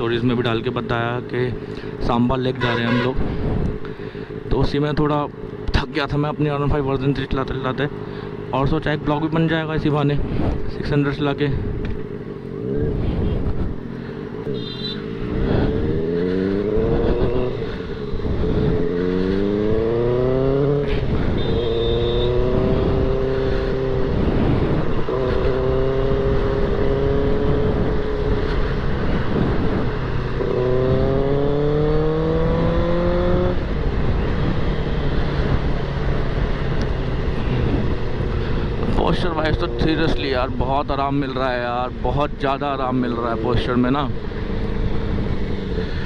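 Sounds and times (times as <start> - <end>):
motorcycle engine accelerating: 0.0 - 41.5, 42.7 - 46.0.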